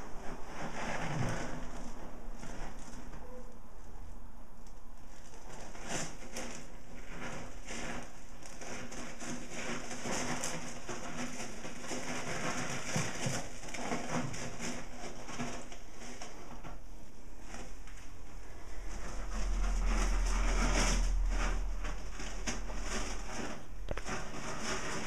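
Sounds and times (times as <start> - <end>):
cat digging in litter: 0.0 - 25.0.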